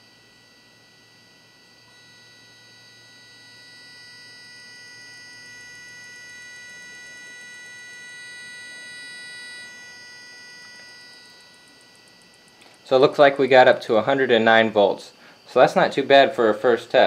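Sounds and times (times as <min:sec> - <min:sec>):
high-pitched electrical whine: 0:00.0 - 0:17.0.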